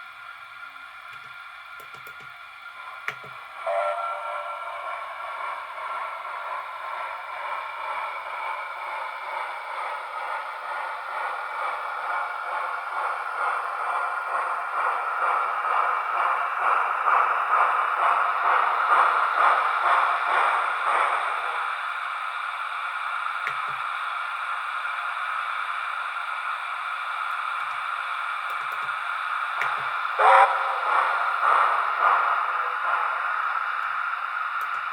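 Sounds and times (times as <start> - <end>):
steam exhaust chuffs from small speaker: 0.0 - 34.9.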